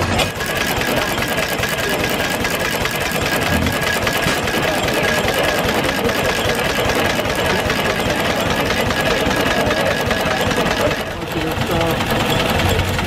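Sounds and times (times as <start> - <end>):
stationary gas engine running: 0.0 - 13.0.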